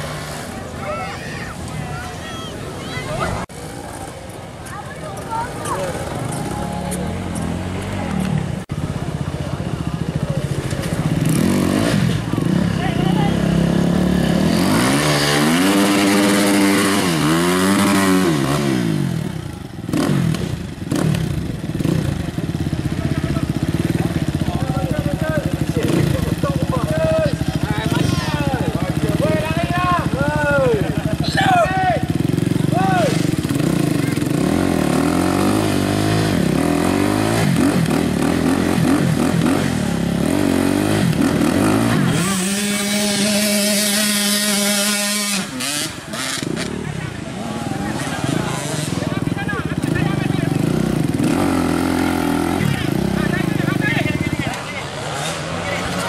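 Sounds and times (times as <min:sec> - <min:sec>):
dirt bike engine revving: 0:00.0 - 0:00.8, 0:05.3 - 0:56.0.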